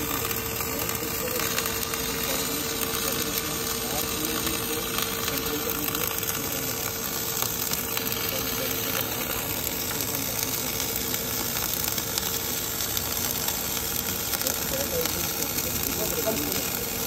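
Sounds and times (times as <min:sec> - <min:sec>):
welding arc crackling hiss: 0:00.0 - 0:17.0.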